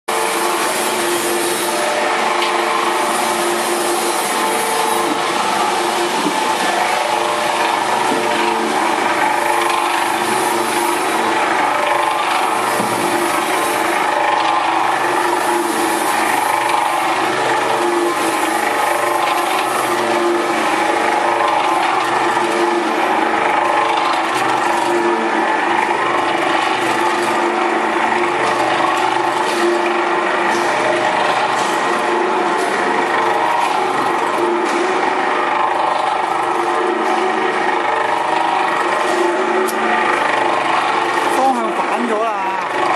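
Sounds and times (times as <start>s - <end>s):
electric gear motor humming: 0.1s - 42.9s
paddles churning food in pot: 0.1s - 42.9s.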